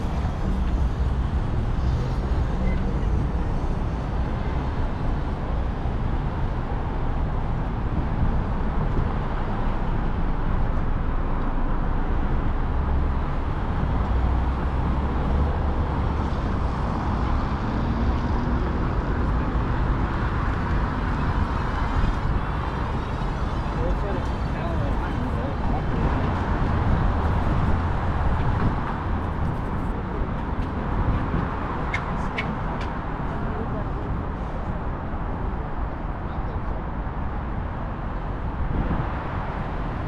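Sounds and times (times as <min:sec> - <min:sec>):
city street traffic: 0:00.0 - 0:40.0.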